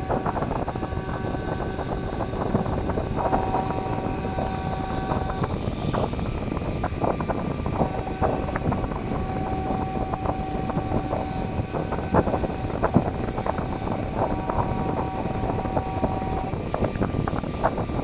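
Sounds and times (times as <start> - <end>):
cutting machine running: 0.0 - 18.0
thin machine whine: 0.0 - 18.0.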